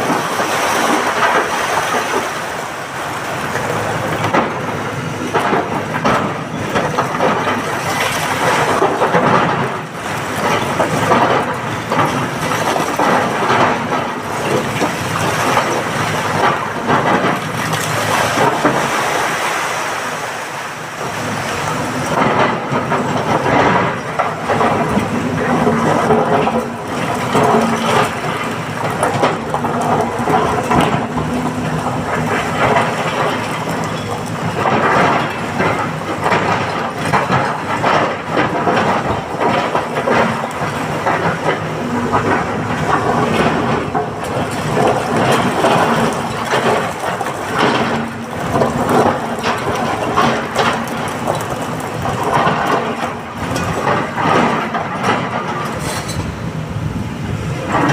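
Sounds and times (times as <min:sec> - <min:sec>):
diesel engine under load: 0:00.0 - 0:57.9.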